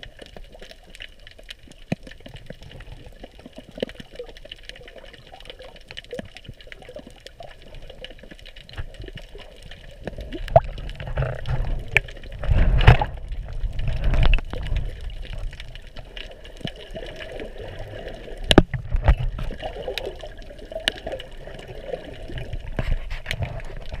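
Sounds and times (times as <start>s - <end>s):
underwater clicks and knocks: 0.0s - 21.6s, 22.2s - 24.0s
underwater sloshing and rumbling: 0.0s - 24.0s.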